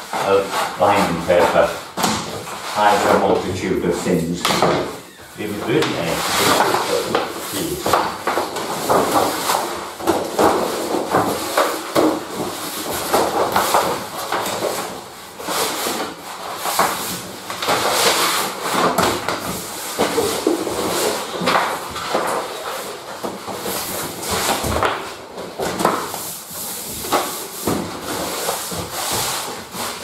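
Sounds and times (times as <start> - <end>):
thick paper rustling: 0.0 - 30.0.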